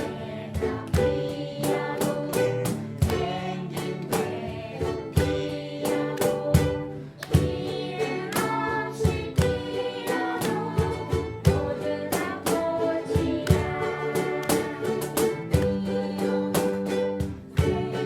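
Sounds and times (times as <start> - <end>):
ukulele ensemble strumming: 0.0 - 18.0.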